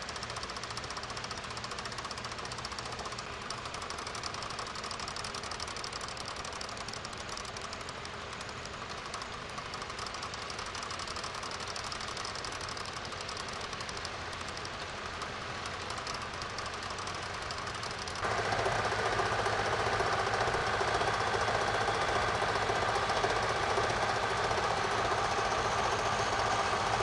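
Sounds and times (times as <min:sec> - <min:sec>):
tractor engine under load: 0:00.0 - 0:27.0.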